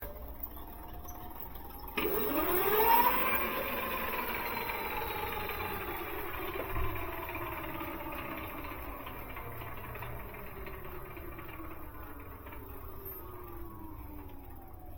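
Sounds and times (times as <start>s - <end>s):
hub motor whine: 0.0s - 14.9s.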